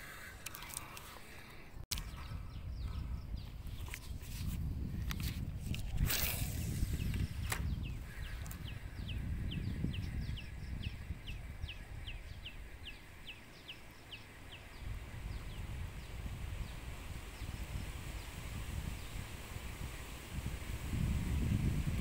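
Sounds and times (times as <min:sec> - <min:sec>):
wind on microphone: 0:01.9 - 0:22.0.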